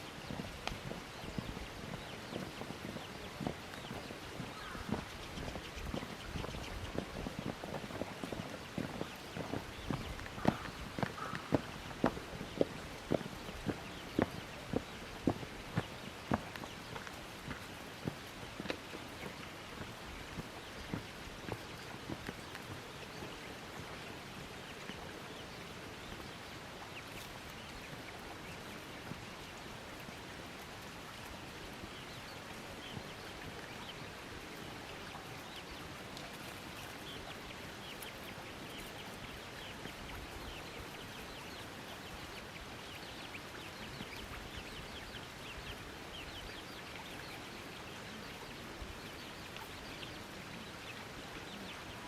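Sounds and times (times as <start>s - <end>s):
small birds chirping: 0.0s - 52.0s
steady outdoor hiss: 0.0s - 52.0s.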